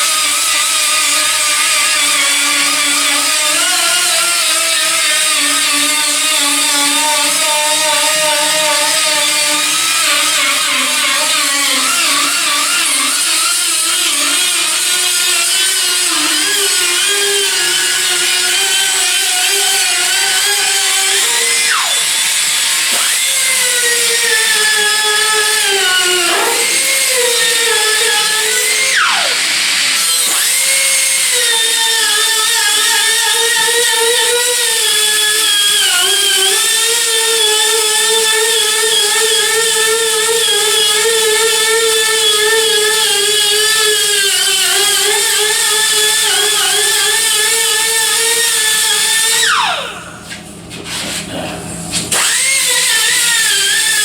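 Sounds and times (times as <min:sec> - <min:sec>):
power tool motor running: 0:00.0 - 0:54.0.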